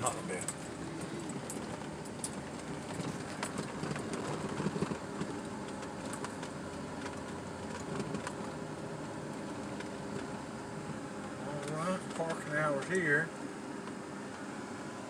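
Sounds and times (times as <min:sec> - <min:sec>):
tyres rolling over gravel: 0:00.0 - 0:13.2
vehicle engine running: 0:00.0 - 0:15.0
light clicks from road: 0:00.3 - 0:14.5.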